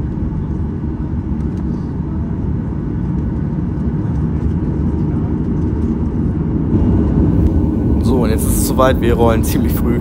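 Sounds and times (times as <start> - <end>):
aircraft cabin engine rumble: 0.0 - 10.0.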